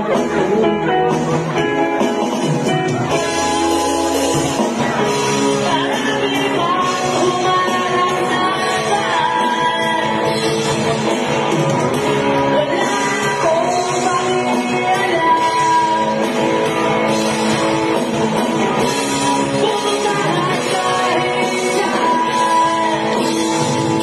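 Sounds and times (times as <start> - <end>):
bass guitar: 0.0 - 24.0
drums: 0.0 - 24.0
electric guitars: 0.0 - 24.0
person singing: 0.0 - 24.0.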